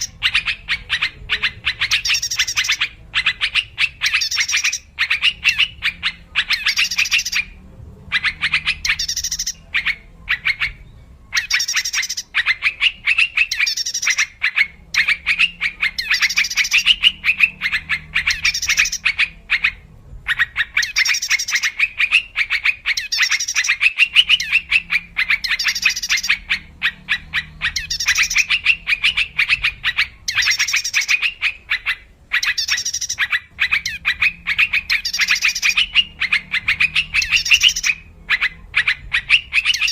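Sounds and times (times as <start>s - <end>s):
bulbuls chattering calls: 0.0s - 39.9s.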